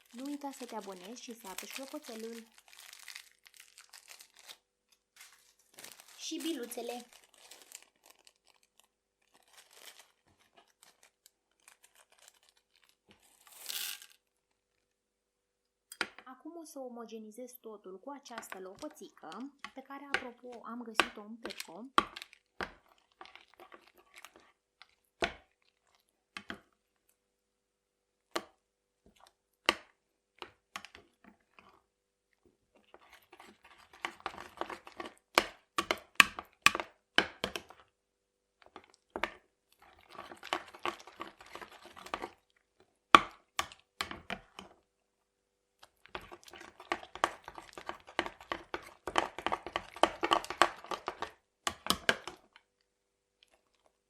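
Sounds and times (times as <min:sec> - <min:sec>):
spatula stirring crunchy slime: 0:00.0 - 0:14.7, 0:18.2 - 0:27.2, 0:28.2 - 0:45.0, 0:45.7 - 0:54.0.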